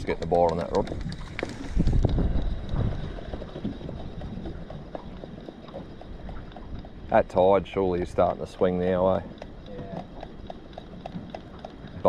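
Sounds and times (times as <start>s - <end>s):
faint clicks and knocks: 0.0s - 12.0s
wind rumbling on microphone: 0.0s - 12.0s.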